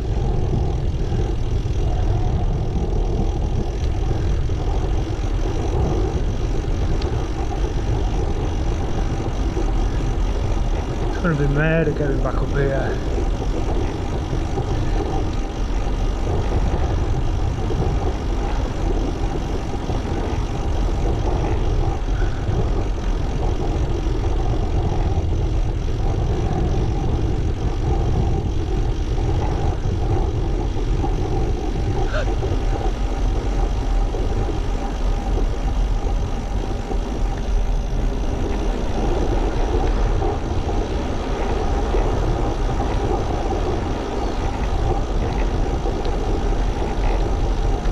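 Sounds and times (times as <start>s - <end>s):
tyre and road noise: 0.0s - 47.9s
wind rumble on microphone: 0.0s - 47.9s.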